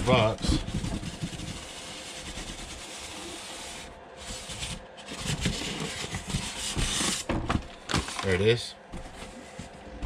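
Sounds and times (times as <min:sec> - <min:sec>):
rummaging through cardboard box: 0:00.0 - 0:10.0.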